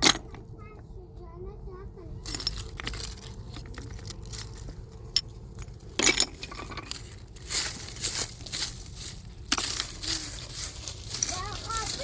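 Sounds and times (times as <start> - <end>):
small objects clinking and tapping: 2.2 - 12.0.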